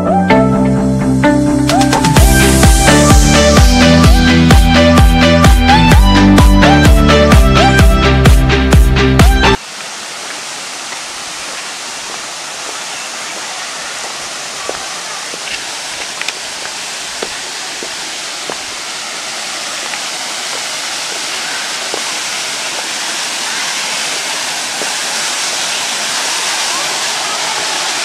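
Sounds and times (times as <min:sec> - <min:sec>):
waterfall rushing: 0:01.6 - 0:28.0.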